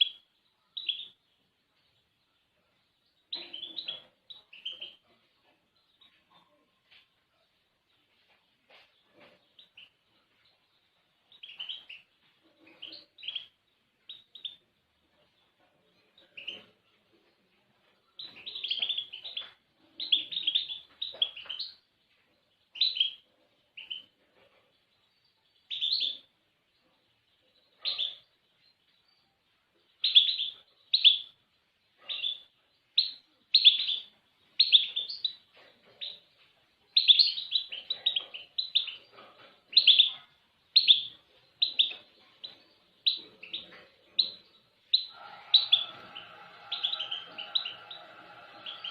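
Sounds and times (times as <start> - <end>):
small songbird chirping: 0.0 - 48.9.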